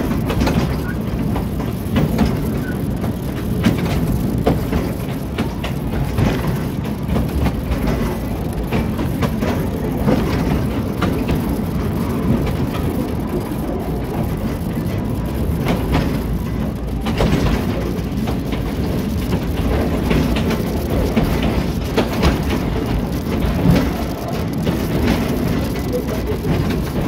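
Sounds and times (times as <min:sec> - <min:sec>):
train rumbling along track: 0:00.0 - 0:27.0
wheels clicking on rails: 0:00.0 - 0:27.0.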